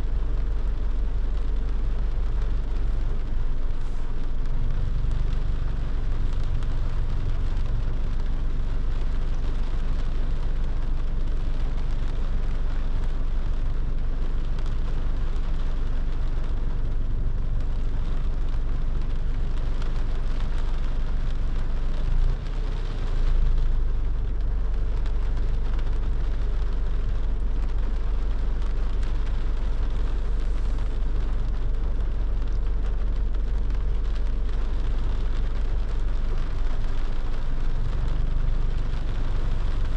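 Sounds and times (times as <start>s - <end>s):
car road and engine rumble: 0.0s - 39.9s
rain hissing: 0.0s - 39.9s.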